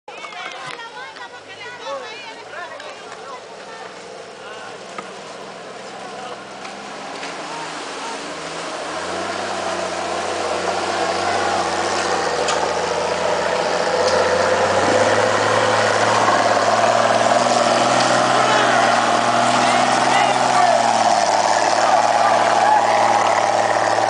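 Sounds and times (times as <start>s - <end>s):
pickup truck engine: 1.8s - 24.0s.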